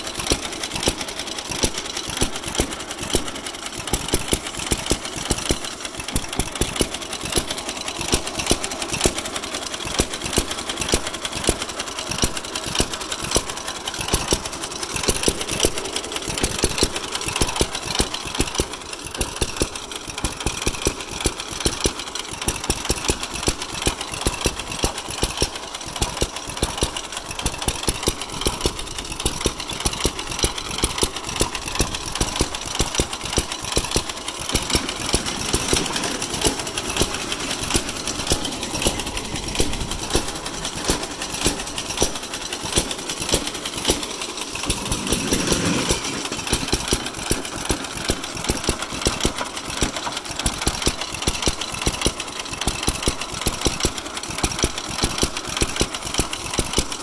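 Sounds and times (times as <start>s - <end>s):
mechanical clatter: 0.0s - 57.0s.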